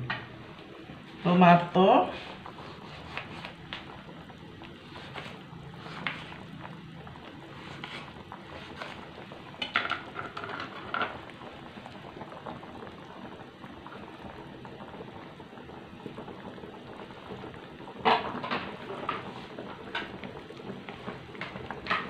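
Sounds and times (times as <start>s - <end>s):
curry bubbling in a pan: 0.0s - 22.0s.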